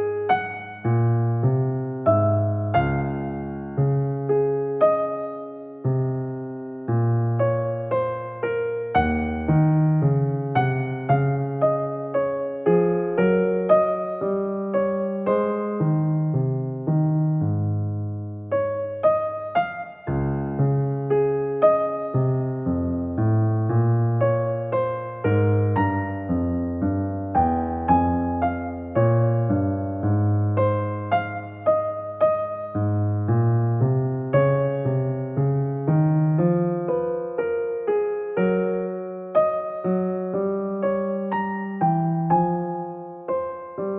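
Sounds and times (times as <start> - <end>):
soft keyboard music: 0.0 - 43.9.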